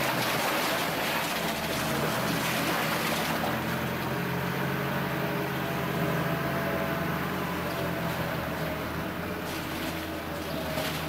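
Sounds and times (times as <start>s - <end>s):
diesel loader engine running: 0.0s - 11.0s.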